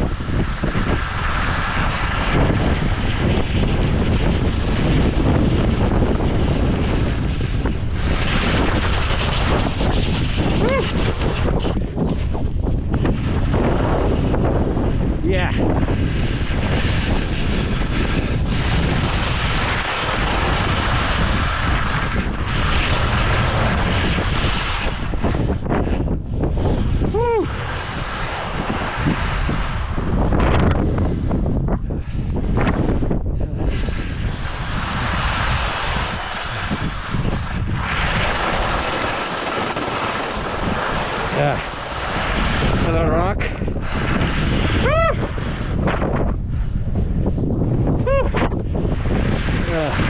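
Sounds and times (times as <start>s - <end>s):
strong wind buffeting microphone: 0.0s - 50.0s.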